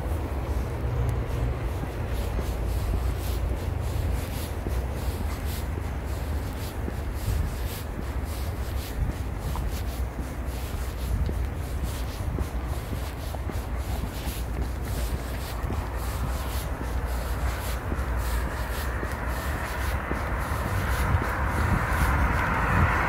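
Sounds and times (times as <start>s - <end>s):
microphone rubbing on clothing: 0.0s - 23.0s.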